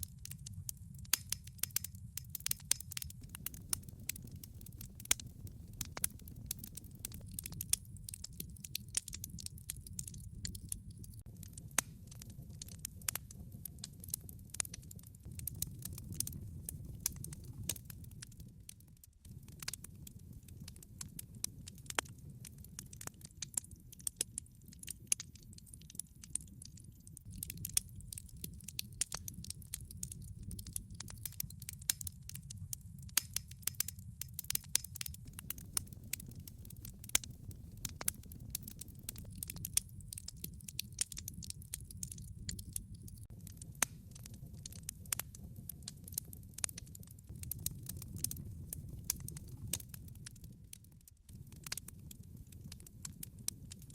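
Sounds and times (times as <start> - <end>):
logs crackling and popping: 0.0 - 53.9
low rumble of flames: 0.0 - 53.9.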